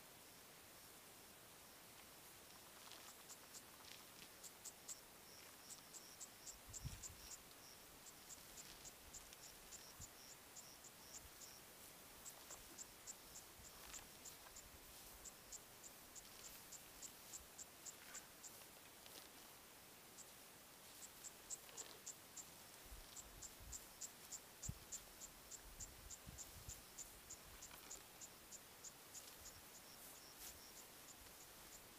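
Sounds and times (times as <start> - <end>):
insects chirping: 1.6 - 19.5, 20.1 - 31.9.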